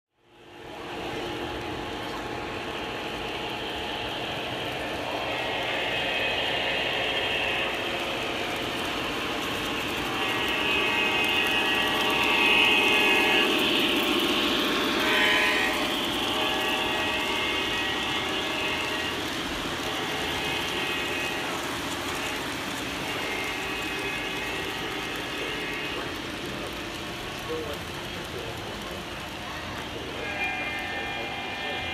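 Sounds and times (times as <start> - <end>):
model train diesel engine drone: 0.2 - 31.9.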